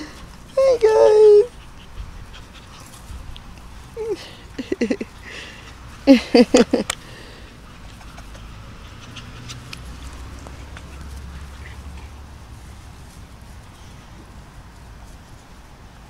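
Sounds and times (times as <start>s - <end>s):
rustling on grass: 0.0s - 16.0s
steady low rumble: 1.5s - 16.0s.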